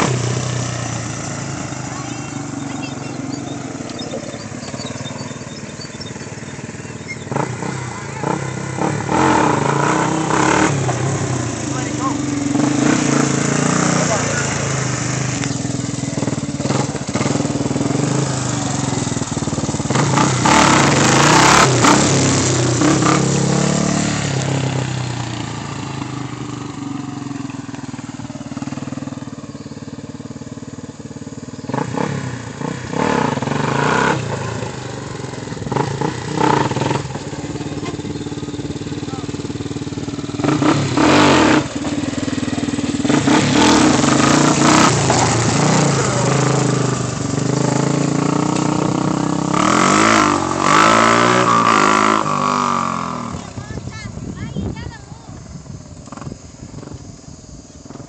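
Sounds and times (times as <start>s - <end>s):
quad engine revving: 0.0s - 57.1s.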